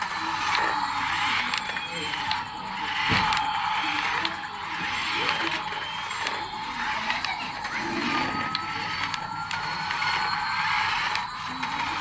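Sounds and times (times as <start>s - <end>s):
toy motor and gears whirring: 0.0s - 12.0s.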